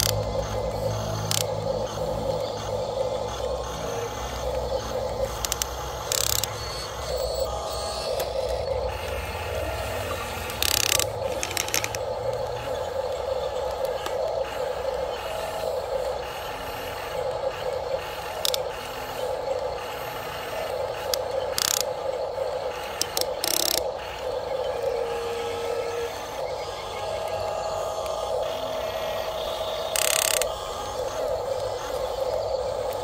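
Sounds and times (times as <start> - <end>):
electric gear motors whining: 0.0 - 33.0.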